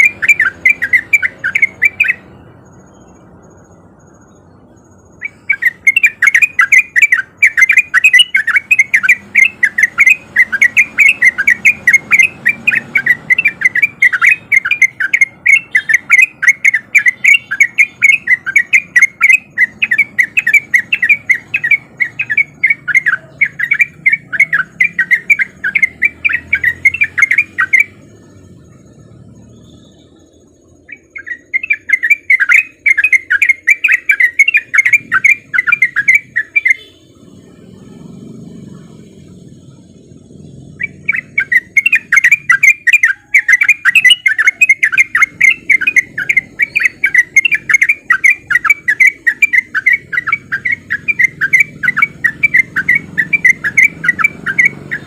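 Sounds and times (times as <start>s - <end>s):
bulbul singing quick chirpy notes: 0.0s - 55.0s.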